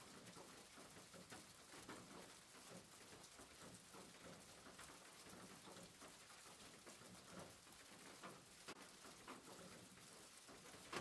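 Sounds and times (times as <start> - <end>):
faint steady rain: 0.0 - 11.0.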